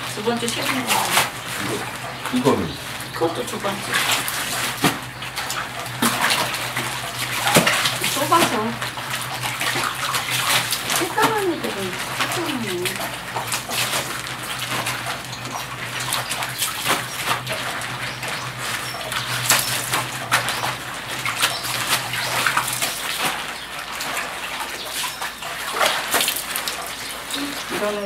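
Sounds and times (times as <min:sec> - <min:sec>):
steady low hum: 0:00.0 - 0:24.8
water splashing in basins: 0:00.0 - 0:28.0.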